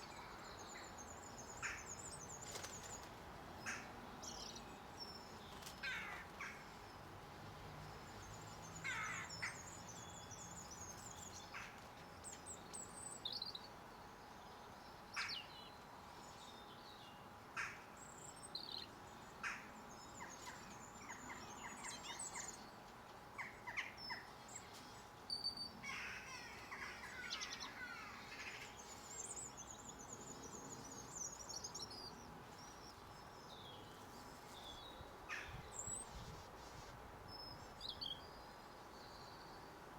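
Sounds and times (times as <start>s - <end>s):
birds chirping and twittering: 0.0s - 39.9s
faint steady hum: 0.0s - 39.9s.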